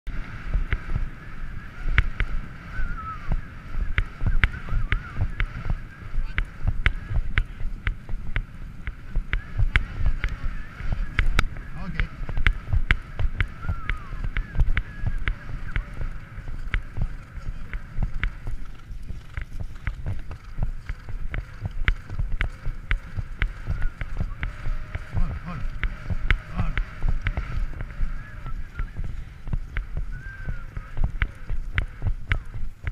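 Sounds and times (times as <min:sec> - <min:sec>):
hoofbeat thuds: 0:00.1 - 0:32.9
wind buffeting microphone: 0:00.1 - 0:32.9
sharp clicks: 0:00.2 - 0:32.9.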